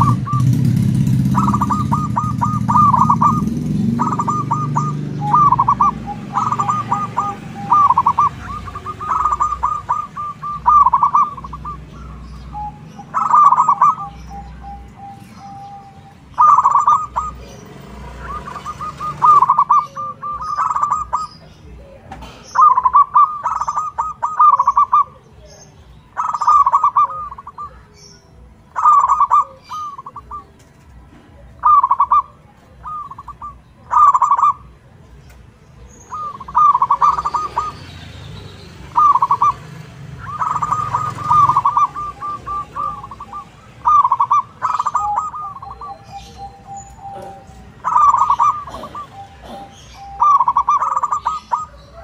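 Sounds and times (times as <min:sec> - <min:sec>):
dove cooing: 0:00.0 - 0:34.9, 0:35.8 - 0:52.0.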